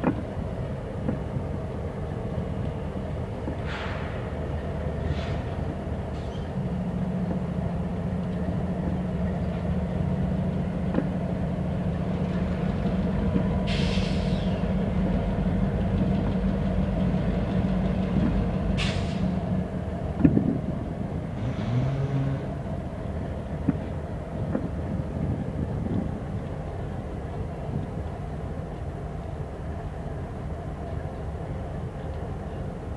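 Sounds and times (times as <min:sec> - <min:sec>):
locomotive engine drone: 0:00.0 - 0:32.9.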